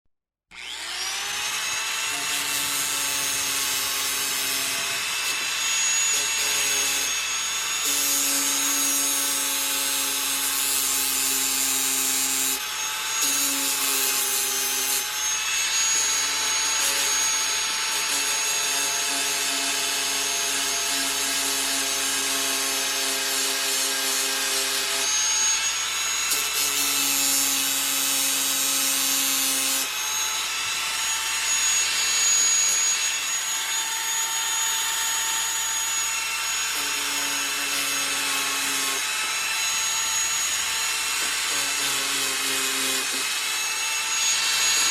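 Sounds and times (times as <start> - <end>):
power tool motor tone: 0.5 - 44.9.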